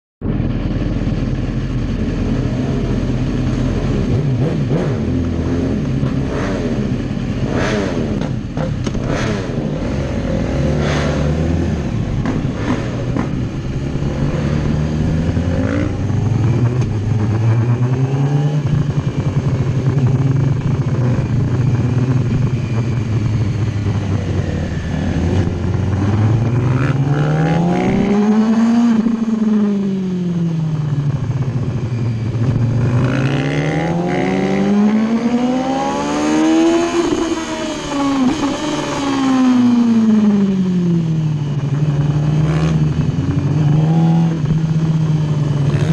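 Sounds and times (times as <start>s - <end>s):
motorcycle engine revving: 0.2s - 45.9s.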